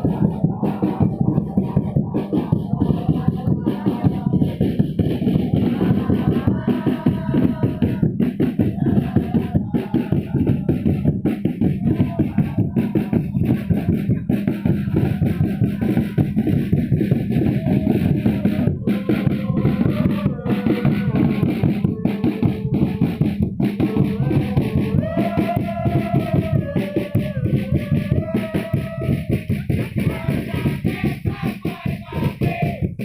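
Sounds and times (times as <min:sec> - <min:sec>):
crowd chanting: 0:00.0 - 0:33.0
crowd singing a tune: 0:00.0 - 0:33.0
fast steady drumbeats: 0:00.0 - 0:33.0.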